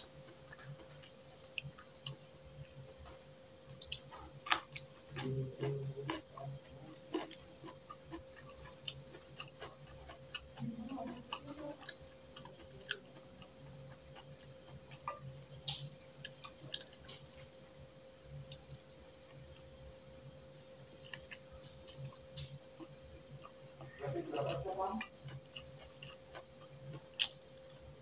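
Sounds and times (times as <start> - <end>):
crickets chirring: 0.0 - 28.0
chewing and mouth smacks: 0.1 - 19.7, 21.0 - 28.0.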